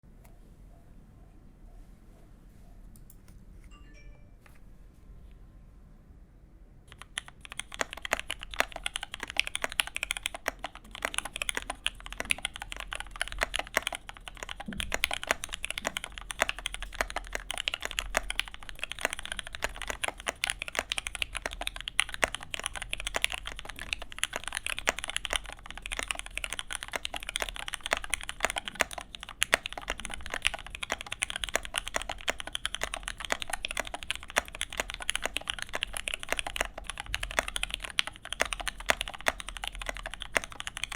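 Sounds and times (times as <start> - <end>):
mechanical keyboard typing: 6.9 - 40.9.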